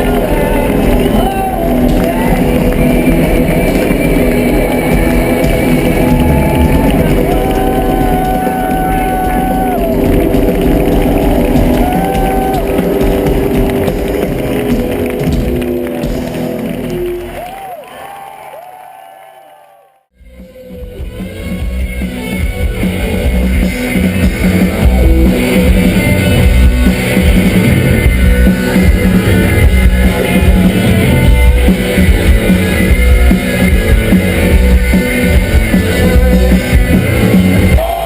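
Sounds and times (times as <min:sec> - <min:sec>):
loud rock music with guitar and drums: 0:00.0 - 0:17.4, 0:20.2 - 0:38.0.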